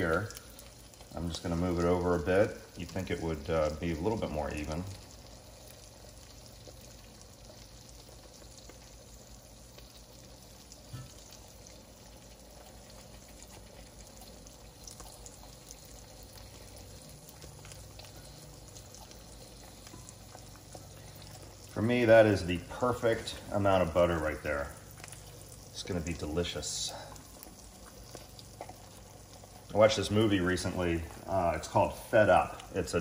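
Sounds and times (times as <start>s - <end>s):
eggs sizzling in a skillet: 0.0s - 33.0s
low steady hum: 0.0s - 33.0s.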